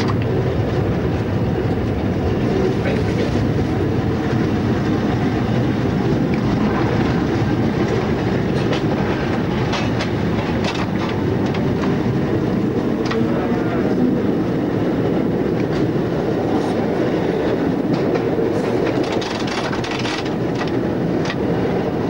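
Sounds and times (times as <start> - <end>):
tram rumbling along track: 0.0 - 22.0.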